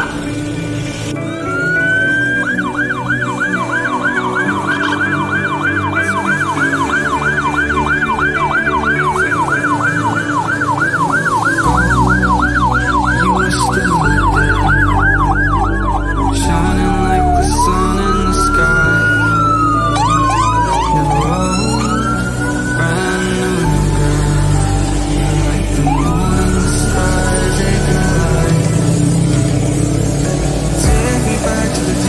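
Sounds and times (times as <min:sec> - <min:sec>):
low drone: 0:00.0 - 0:32.0
electronic siren wailing and yelping: 0:01.2 - 0:30.8.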